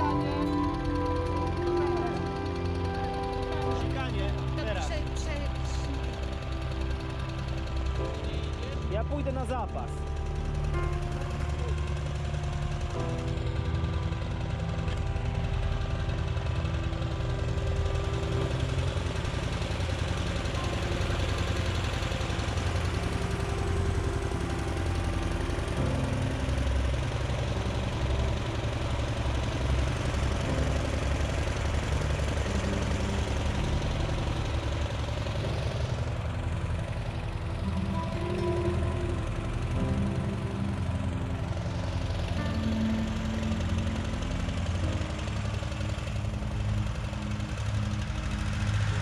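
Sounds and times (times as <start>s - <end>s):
small petrol engine running: 0.0s - 49.0s.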